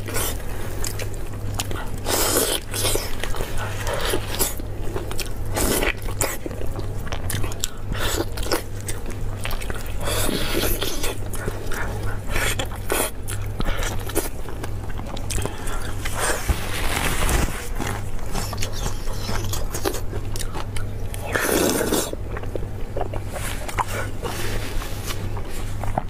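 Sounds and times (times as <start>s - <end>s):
biting and chewing meat: 0.0s - 26.0s
steady low hum: 0.0s - 26.0s.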